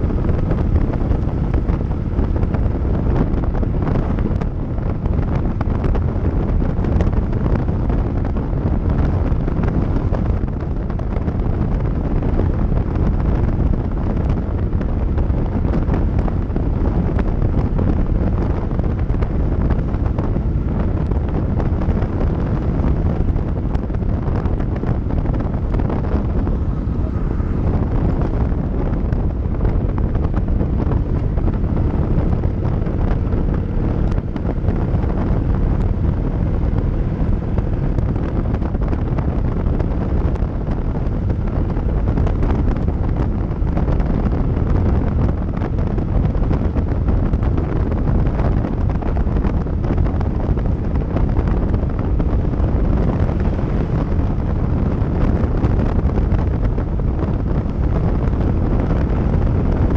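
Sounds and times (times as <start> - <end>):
motorcycle engine running: 0.0 - 59.9
road noise: 0.0 - 59.9
wind buffeting microphone: 0.0 - 59.9.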